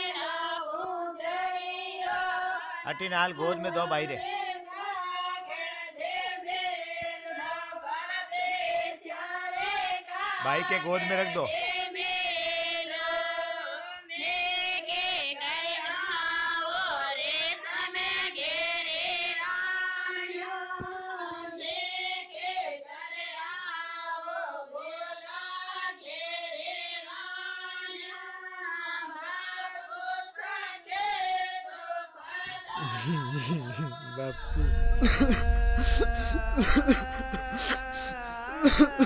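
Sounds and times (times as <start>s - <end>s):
women singing unaccompanied: 0.0s - 39.0s.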